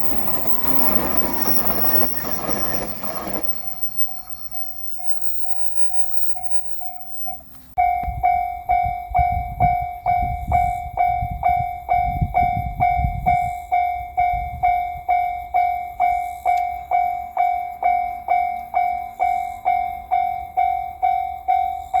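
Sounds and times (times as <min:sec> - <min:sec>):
railroad crossing bell ringing: 0:00.0 - 0:22.0
train rumbling: 0:00.0 - 0:22.0.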